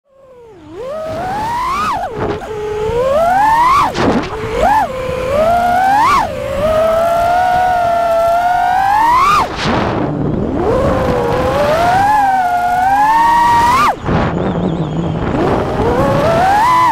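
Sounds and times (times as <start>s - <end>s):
quadcopter motors whining: 0.1s - 16.9s
rush of air: 1.0s - 16.9s.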